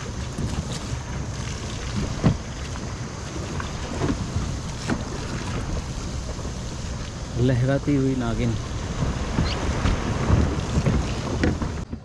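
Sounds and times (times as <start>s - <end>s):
water sloshing around dock: 0.0s - 12.0s
wind buffeting microphone: 0.0s - 12.0s.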